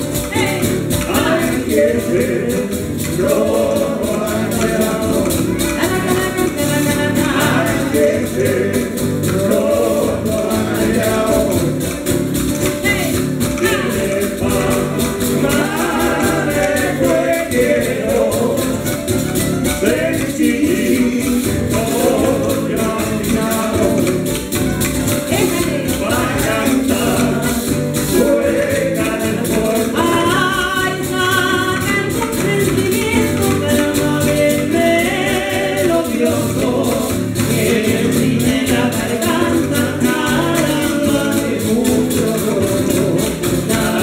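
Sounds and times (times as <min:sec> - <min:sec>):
singing: 0:00.0 - 0:12.0, 0:13.6 - 0:19.0, 0:19.8 - 0:24.3, 0:25.3 - 0:44.0
double bass: 0:00.0 - 0:44.0
rhythmic percussion beat: 0:00.0 - 0:44.0
strummed acoustic guitars: 0:00.0 - 0:44.0.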